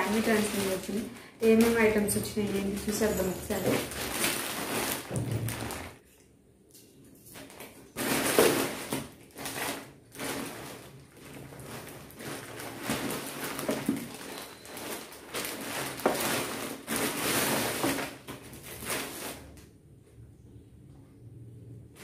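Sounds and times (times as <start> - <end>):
parcel packaging rustling: 0.0 - 6.0, 7.2 - 19.6.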